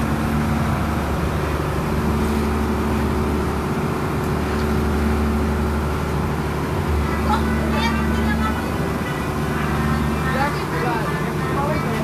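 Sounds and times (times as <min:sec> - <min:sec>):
boat engine humming: 0:00.0 - 0:12.0
water rushing: 0:00.0 - 0:12.0.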